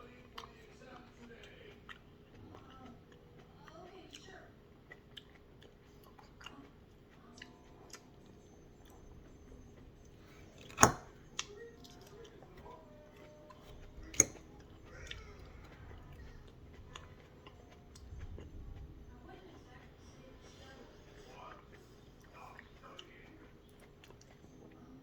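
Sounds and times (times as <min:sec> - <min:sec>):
person quietly chewing: 0:00.0 - 0:25.0.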